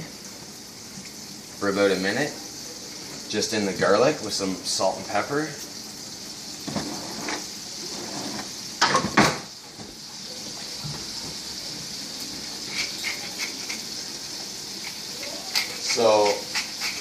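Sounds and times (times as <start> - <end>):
garlic sizzling in a frying pan: 0.0 - 17.0.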